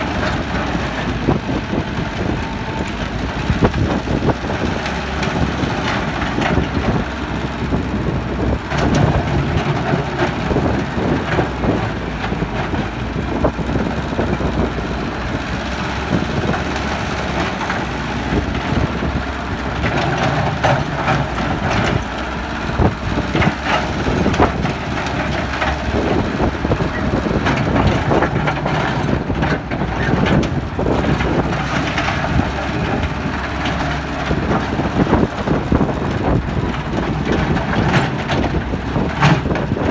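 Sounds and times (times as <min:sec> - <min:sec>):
clatter of earth and stones: 0:00.0 - 0:39.9
excavator diesel engine running: 0:00.0 - 0:39.9.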